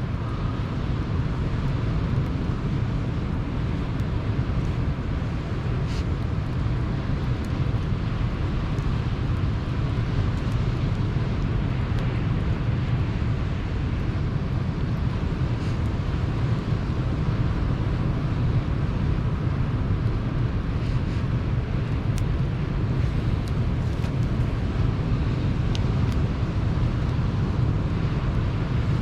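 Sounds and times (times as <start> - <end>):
faint campfire crackles: 0.0 - 29.0.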